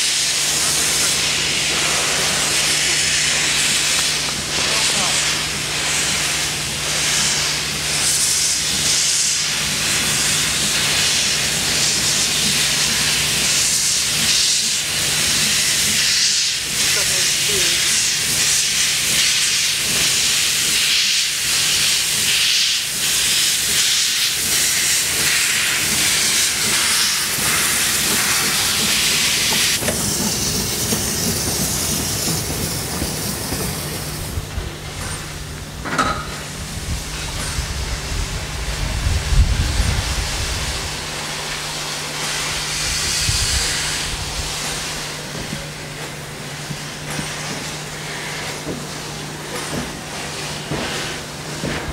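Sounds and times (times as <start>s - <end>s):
steam locomotive hissing: 0.0s - 51.9s.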